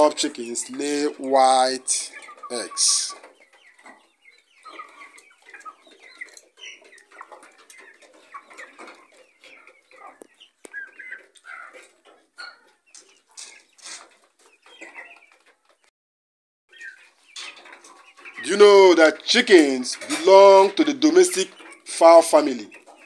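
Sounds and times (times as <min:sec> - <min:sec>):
chickens clucking: 0:00.0 - 0:15.9, 0:16.7 - 0:23.0.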